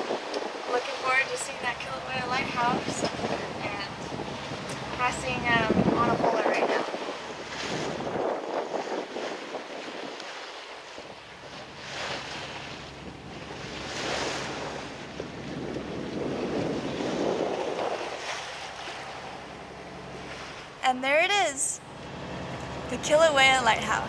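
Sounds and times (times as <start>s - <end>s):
wind buffeting microphone: 0.0s - 20.8s
faint boat engine hum: 0.0s - 24.0s
sea water rushing along hull: 0.0s - 24.0s.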